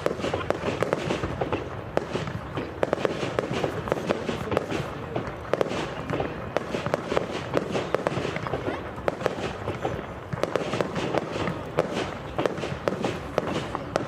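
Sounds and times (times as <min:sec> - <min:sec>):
fireworks bangs and crackles: 0:00.0 - 0:14.0
steady background noise: 0:00.0 - 0:14.0.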